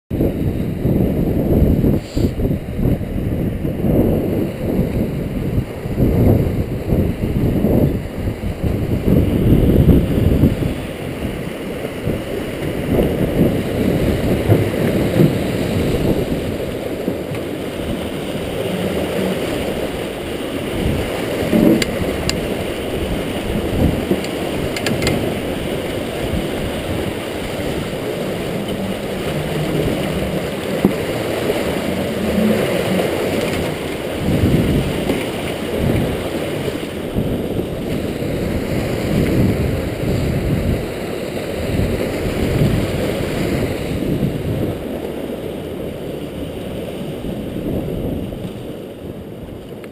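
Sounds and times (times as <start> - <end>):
river water churning and splashing: 0.1 - 49.9
wind buffeting microphone: 0.1 - 49.9.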